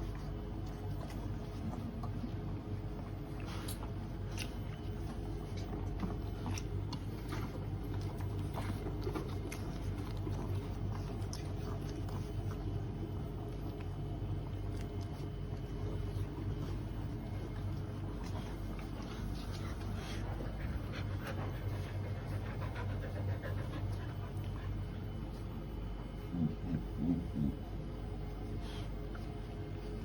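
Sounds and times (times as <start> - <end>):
dog chewing: 0.0 - 27.6
steady low hum: 0.0 - 30.0.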